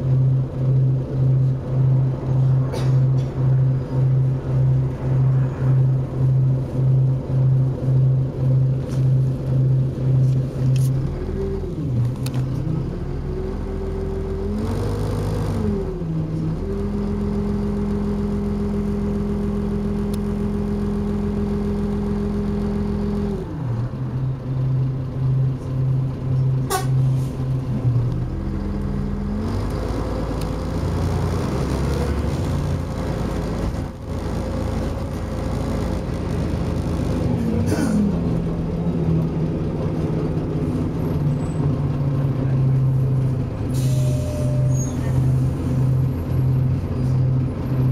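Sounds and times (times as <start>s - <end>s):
bus diesel engine: 0.0s - 47.9s.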